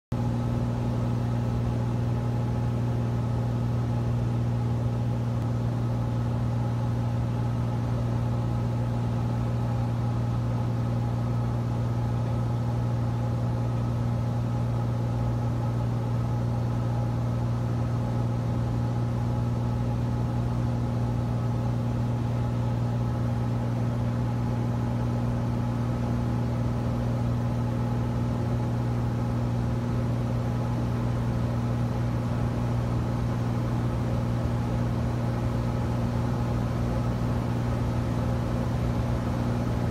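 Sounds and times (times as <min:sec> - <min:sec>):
airplane engine drone in cockpit: 0:00.1 - 0:39.9.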